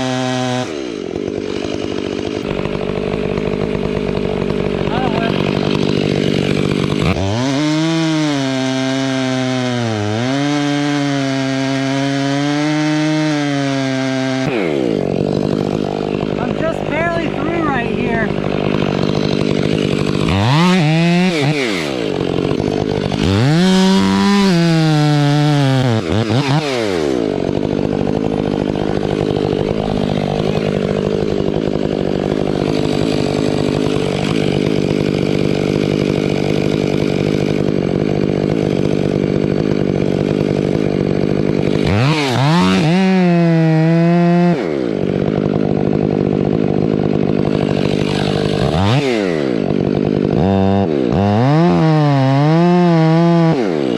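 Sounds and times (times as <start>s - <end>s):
chainsaw cutting into wood: 0.0s - 53.9s.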